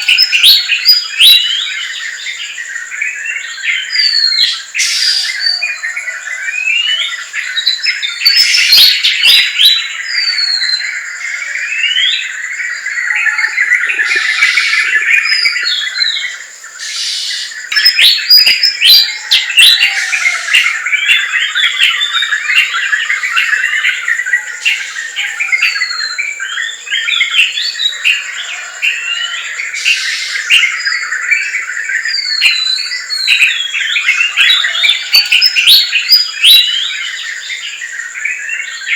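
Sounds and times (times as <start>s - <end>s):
forest birds chirping: 0.0s - 38.9s.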